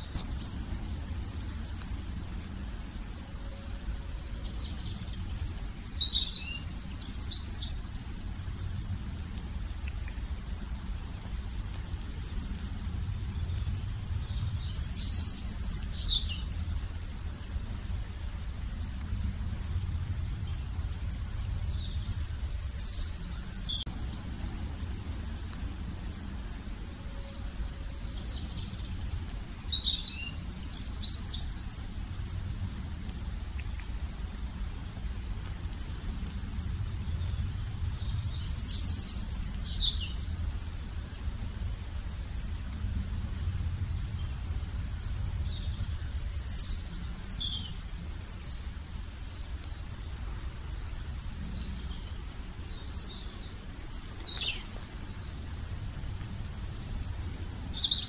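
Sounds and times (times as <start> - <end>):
low steady rumble: 0.0 - 58.0
songbirds chirping: 0.0 - 58.0.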